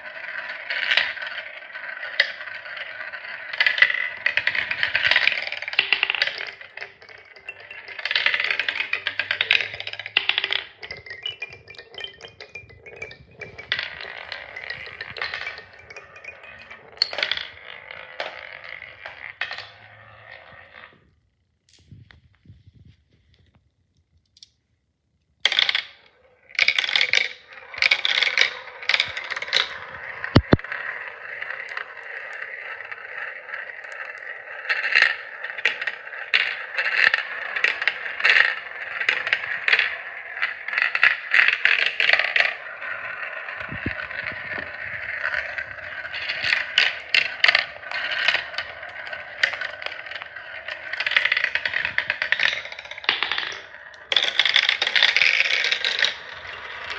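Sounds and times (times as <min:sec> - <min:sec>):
marbles rattling through plastic run: 0:00.0 - 0:21.0, 0:25.4 - 0:56.9.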